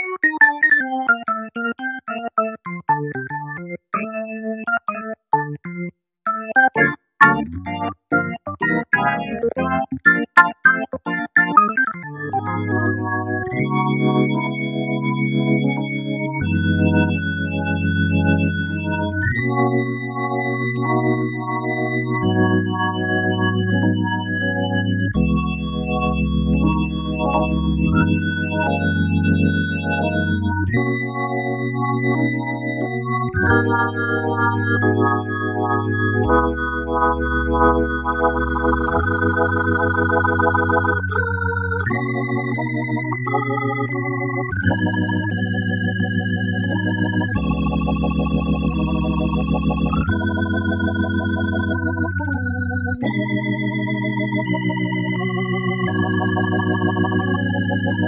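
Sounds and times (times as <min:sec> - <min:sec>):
keyboard organ chords: 0:00.0 - 0:58.0.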